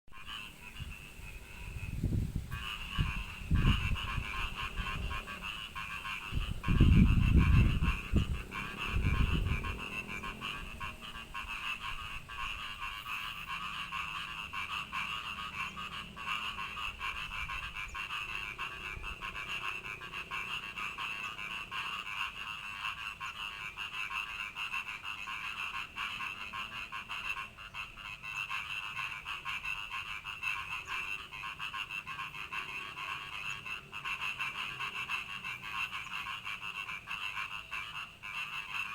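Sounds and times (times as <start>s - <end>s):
frogs chorus: 0.1s - 38.9s.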